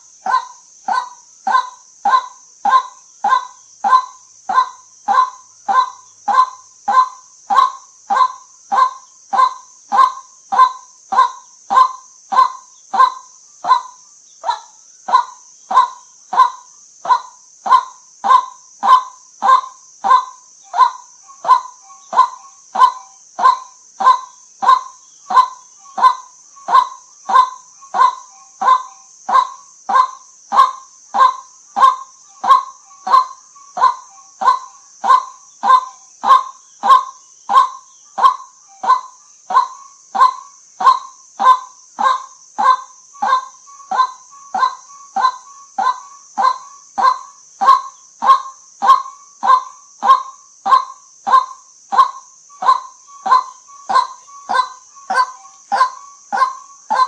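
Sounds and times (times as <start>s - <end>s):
steady high hiss: 0.0s - 57.0s
waterhen kwak calls: 0.2s - 57.0s.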